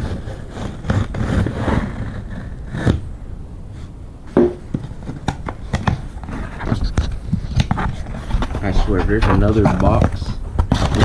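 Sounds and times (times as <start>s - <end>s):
cardboard boxes scraping and rustling: 0.0s - 3.1s, 4.6s - 11.0s.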